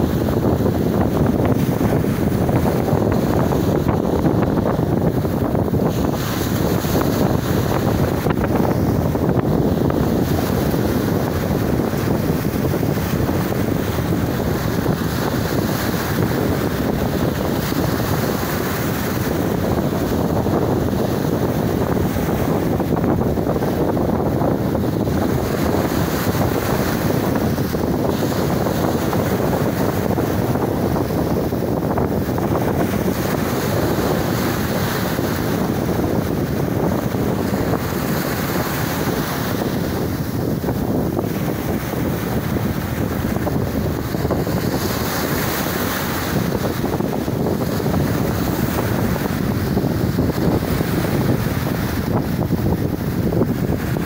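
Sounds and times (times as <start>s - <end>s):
sea waves breaking on shore: 0.0s - 54.0s
wind buffeting microphone: 0.0s - 54.0s.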